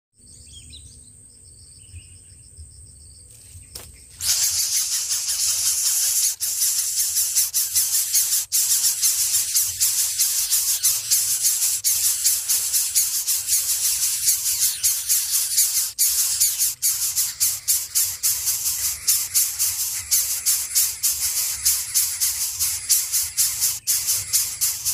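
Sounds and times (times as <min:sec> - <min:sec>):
nestlings begging with rasping hiss: 0:03.7 - 0:24.9.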